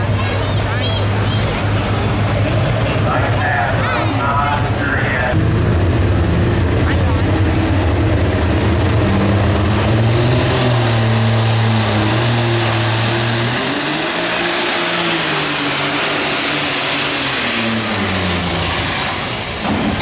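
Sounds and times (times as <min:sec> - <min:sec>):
tractor engine at full throttle: 0:00.0 - 0:20.0
turbocharger whine: 0:01.3 - 0:20.0.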